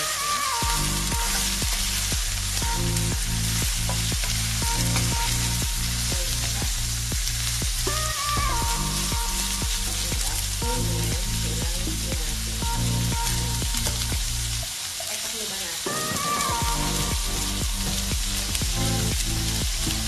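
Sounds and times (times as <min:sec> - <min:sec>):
background music with beat: 0:00.0 - 0:14.7, 0:15.9 - 0:20.0
food sizzling in a pan: 0:00.0 - 0:20.0.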